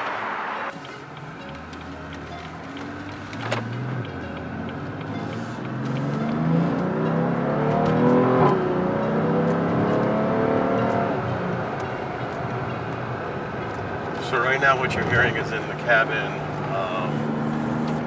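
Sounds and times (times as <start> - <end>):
car exhaust accelerating: 0.0 - 18.0.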